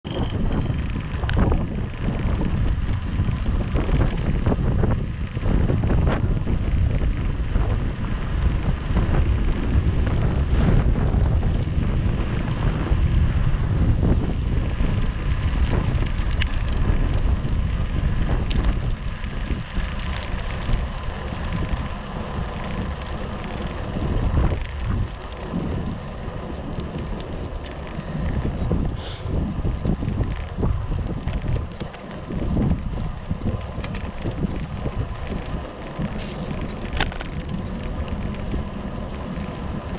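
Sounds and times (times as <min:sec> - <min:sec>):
tyres rumbling on rough tarmac: 0:00.0 - 0:39.9
wind buffeting microphone: 0:00.0 - 0:39.9.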